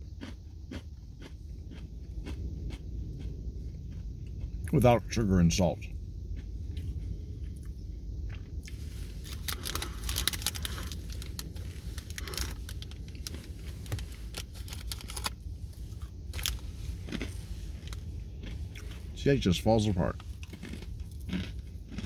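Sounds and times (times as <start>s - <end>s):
crunchy nut bar being chewed: 0.0s - 5.6s, 6.3s - 22.0s.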